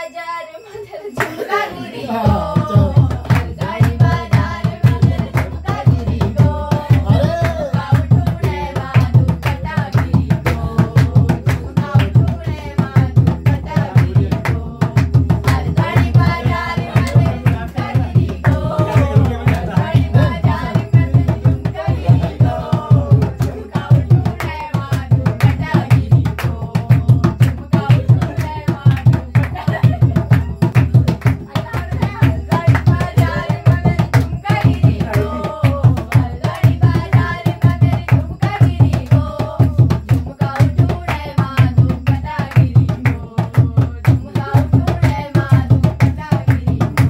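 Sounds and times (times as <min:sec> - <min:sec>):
people singing folk song: 0:00.0 - 0:47.0
hand drums beaten fast: 0:02.1 - 0:47.0.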